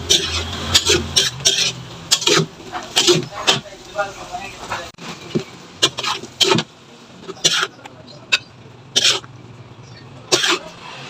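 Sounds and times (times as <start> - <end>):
metal spatula scraping a wok: 0.0 - 9.3, 10.3 - 11.0.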